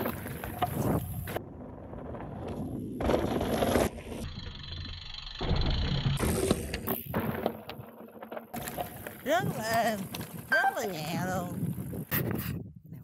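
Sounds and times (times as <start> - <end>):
bike tyres crunching over rocks: 0.0 - 4.3, 5.8 - 12.1.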